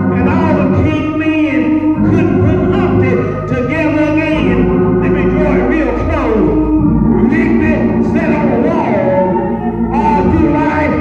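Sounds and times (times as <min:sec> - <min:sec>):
sustained instrumental chords: 0:00.0 - 0:11.0.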